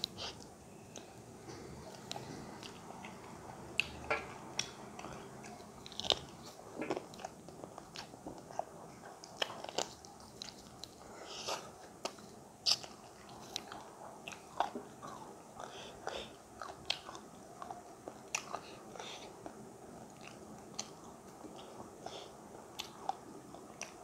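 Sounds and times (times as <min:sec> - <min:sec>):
chewing and crunching bones: 0:01.9 - 0:21.9.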